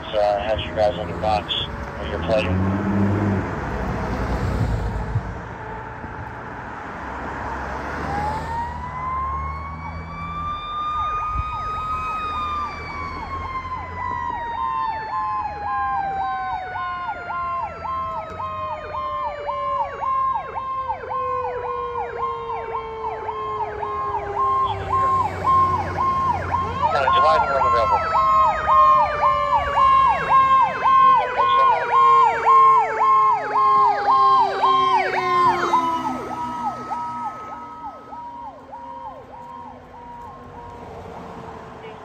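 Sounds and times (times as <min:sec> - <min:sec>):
yelping siren: 0:00.0 - 0:03.2, 0:08.0 - 0:42.0
wailing siren: 0:00.0 - 0:04.2, 0:05.0 - 0:42.0
truck engine rumbling: 0:00.0 - 0:15.0, 0:21.6 - 0:42.0.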